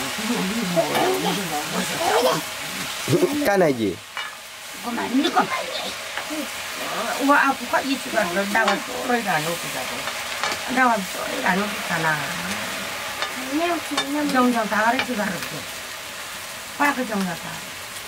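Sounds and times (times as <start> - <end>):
greens sizzling in a wok: 0.0 - 18.0.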